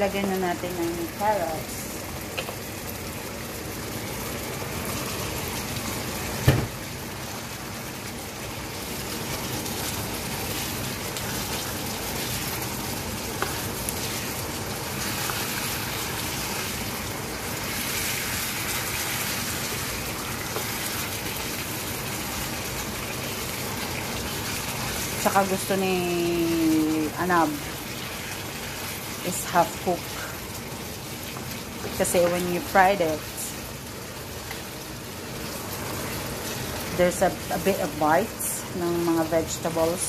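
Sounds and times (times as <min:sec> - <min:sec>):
food sizzling in a wok: 0:00.0 - 0:40.0.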